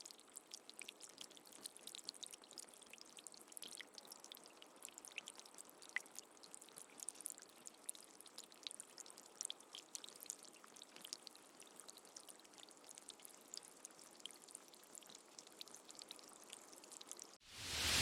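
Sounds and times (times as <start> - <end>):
soft steady rain: 0.0 - 18.0.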